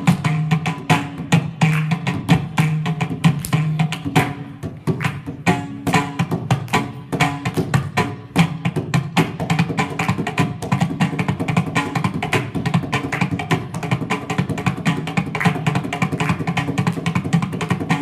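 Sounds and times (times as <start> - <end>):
mridangam drum strokes: 0.0 - 18.0.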